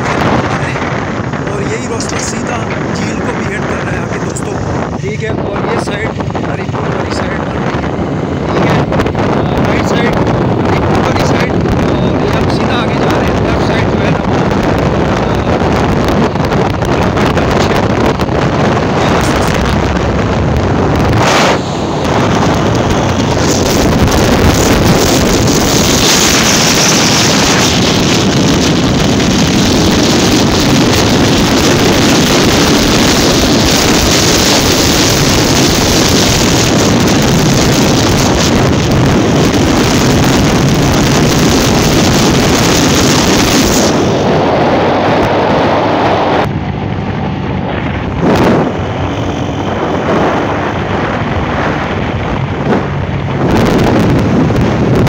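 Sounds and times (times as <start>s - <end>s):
motorcycle engine: 0.0s - 55.0s
wind buffeting microphone: 0.0s - 55.0s.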